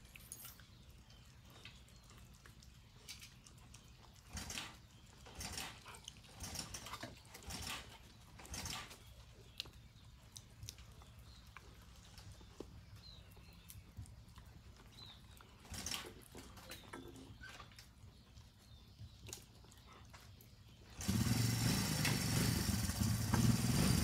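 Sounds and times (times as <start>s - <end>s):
dog chewing and smacking: 0.0s - 21.0s.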